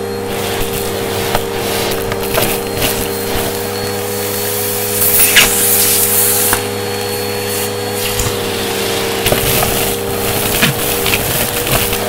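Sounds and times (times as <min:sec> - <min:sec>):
hissing rush: 0:00.0 - 0:12.0
vacuum cleaner running: 0:00.0 - 0:12.0
debris rattling up hose: 0:00.2 - 0:12.0.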